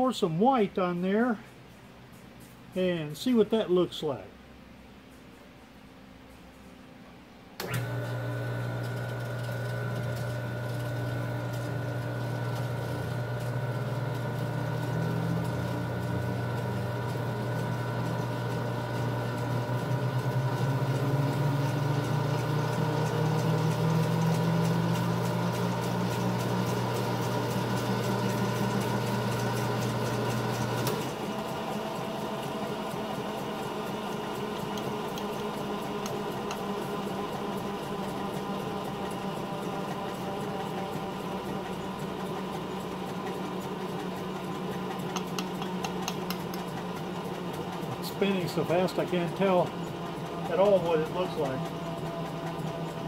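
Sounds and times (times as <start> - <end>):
electric motor hum and whine: 7.6 - 53.0.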